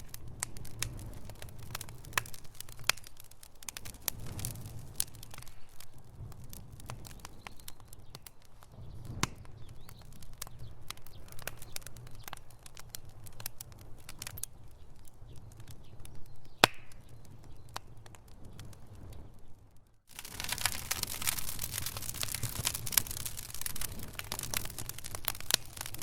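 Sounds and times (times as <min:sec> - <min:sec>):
sharp pops of burning wood: 0:00.0 - 0:26.0
wood fire crackling: 0:00.0 - 0:26.0.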